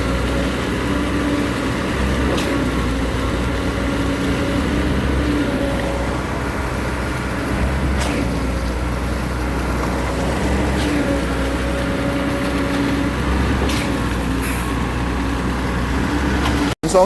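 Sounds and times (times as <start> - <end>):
road noise: 0.0 - 17.0
vehicle engine drone: 0.0 - 17.0.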